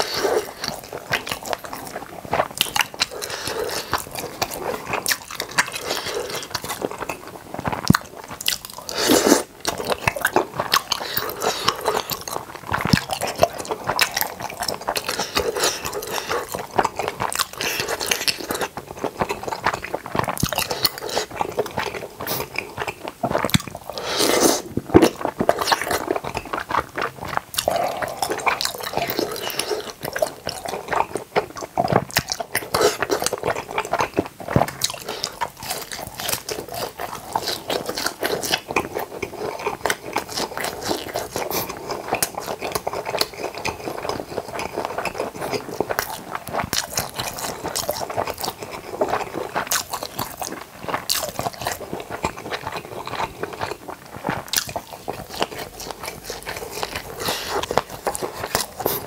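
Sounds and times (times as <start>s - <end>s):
person chewing wetly: 0.0s - 59.0s.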